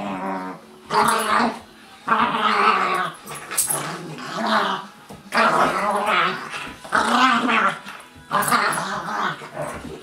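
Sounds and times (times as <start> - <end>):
dogs growling in play: 0.0 - 10.0.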